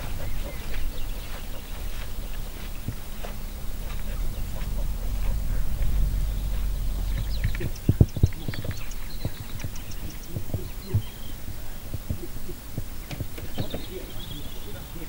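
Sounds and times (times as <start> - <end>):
dull low thumps: 0.0 - 15.0
small birds chirping: 0.0 - 15.0.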